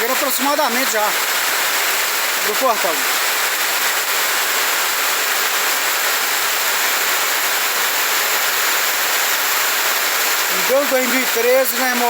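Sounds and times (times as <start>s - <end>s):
heavy rain: 0.0s - 12.0s
runoff water rushing: 0.0s - 12.0s.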